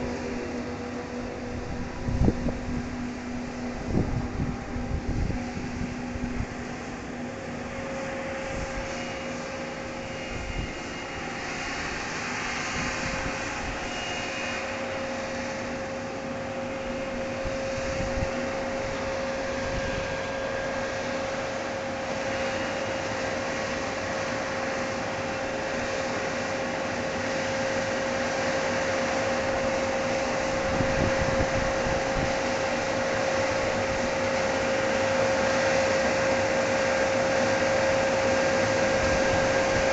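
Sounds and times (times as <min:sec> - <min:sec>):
harvesting machine whine: 0:00.0 - 0:39.9.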